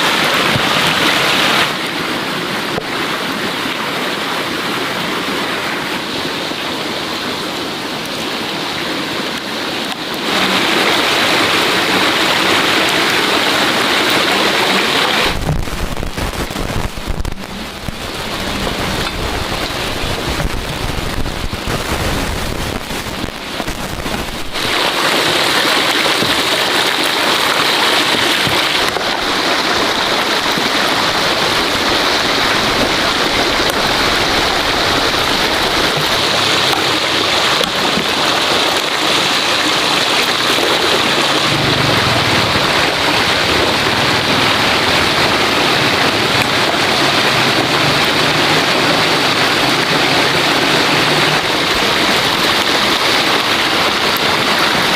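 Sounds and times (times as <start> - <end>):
falling water hiss: 5.8 - 54.9.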